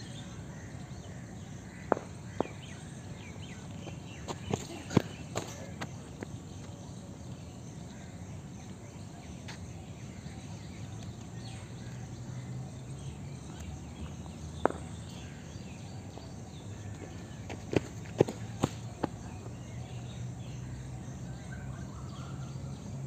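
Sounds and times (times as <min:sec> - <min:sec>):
birds chirping: 0:00.0 - 0:23.0
insects chirping: 0:00.0 - 0:23.0
steady low hum: 0:00.0 - 0:23.0.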